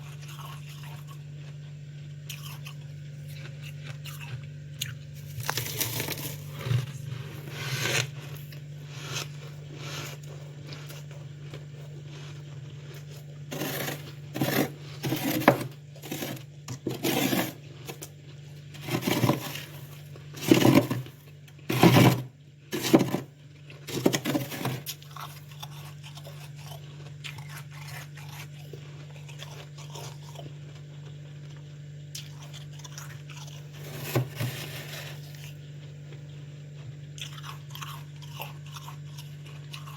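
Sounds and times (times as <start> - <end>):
frost crunching when chewed: 0.0 - 39.9
low steady hum: 0.0 - 39.9.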